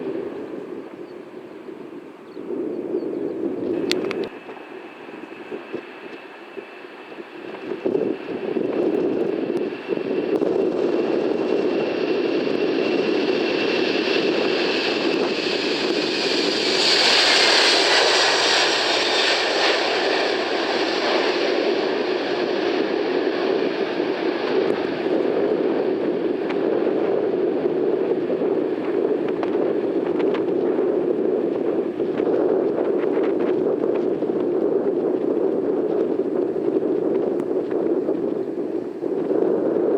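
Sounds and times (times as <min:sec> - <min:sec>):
jet engine roar: 0:00.0 - 0:39.9.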